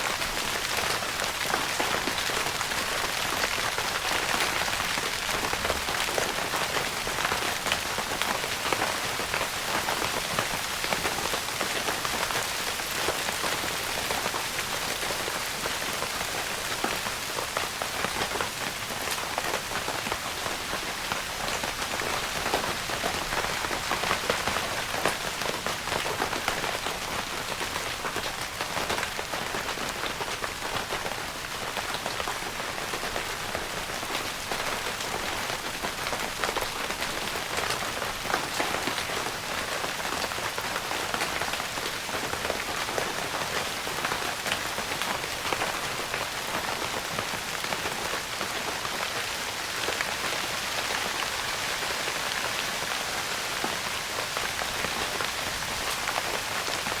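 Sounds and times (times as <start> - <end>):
rain pattering on tent fabric: 0.0 - 57.0.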